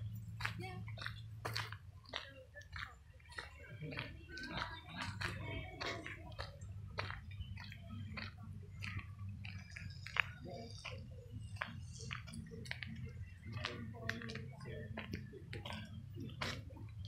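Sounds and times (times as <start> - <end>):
footsteps on gravel: 0.0 - 17.0.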